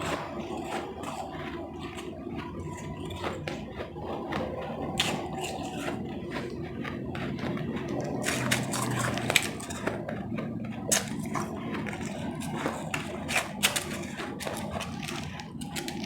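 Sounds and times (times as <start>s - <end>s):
chewing ice chips: 0.0s - 16.0s.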